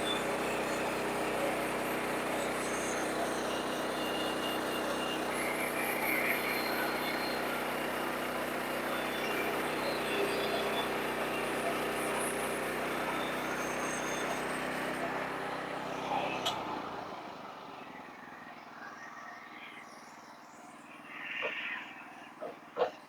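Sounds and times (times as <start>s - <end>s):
sawmill engine hum: 0.0s - 18.7s.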